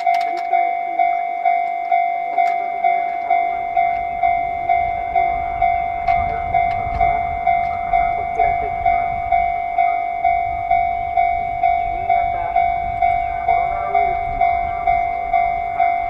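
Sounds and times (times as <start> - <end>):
train rumble: 0.0 - 16.0
two-tone level crossing bell: 0.0 - 16.0.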